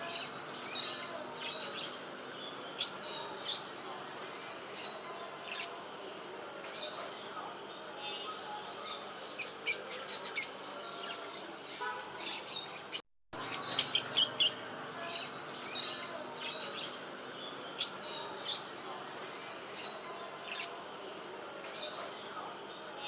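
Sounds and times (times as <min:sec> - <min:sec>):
cage birds chirping: 0:00.0 - 0:23.0.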